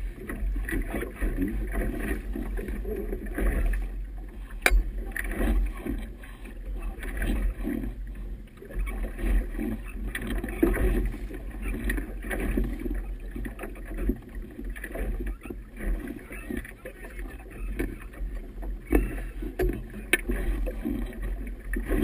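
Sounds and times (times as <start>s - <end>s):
water slapping boat hull: 0.0s - 22.0s.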